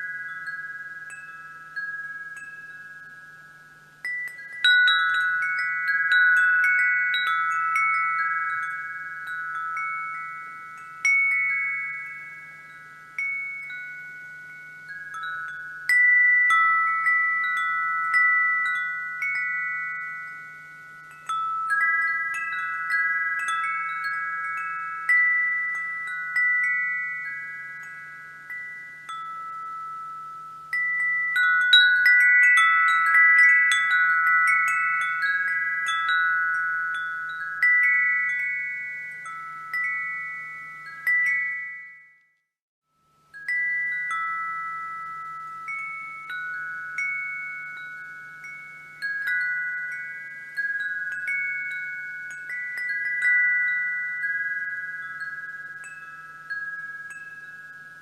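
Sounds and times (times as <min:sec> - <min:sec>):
wind chimes ringing: 0:00.0 - 0:58.0.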